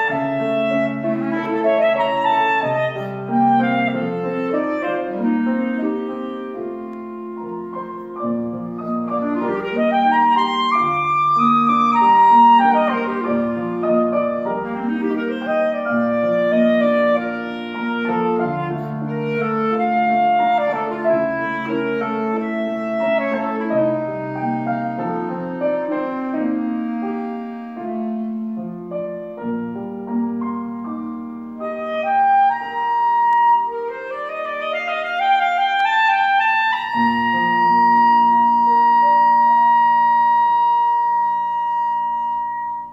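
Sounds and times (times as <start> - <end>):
clarinet melody: 0.0 - 42.9
piano accompaniment: 0.0 - 42.9.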